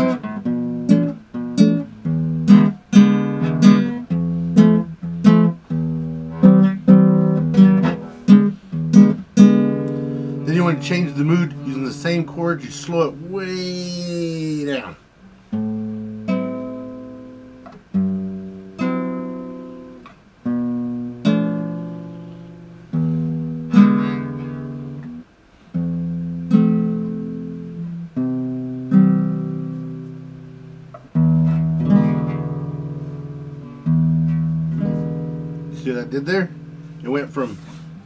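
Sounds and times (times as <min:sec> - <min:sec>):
classical guitar chords strummed: 0:00.0 - 0:38.0.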